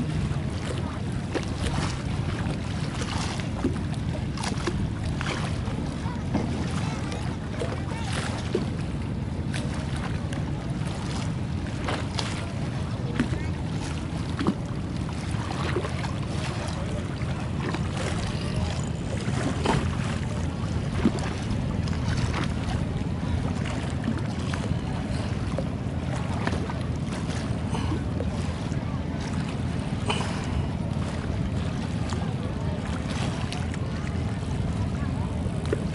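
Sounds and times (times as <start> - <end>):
small knocks and splashes: 0.0 - 35.9
water on a river: 0.0 - 35.9
wind: 0.0 - 35.9.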